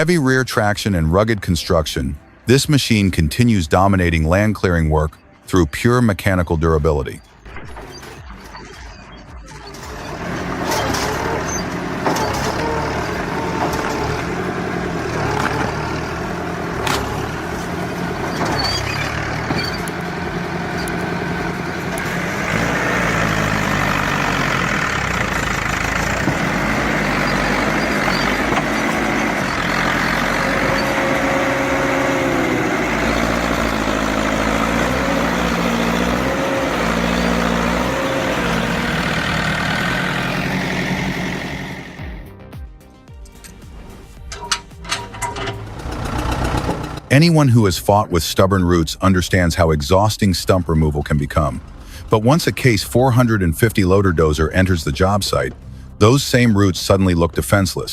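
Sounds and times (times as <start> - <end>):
tractor diesel engine under load: 0.0 - 8.1, 9.5 - 42.4, 43.4 - 57.9.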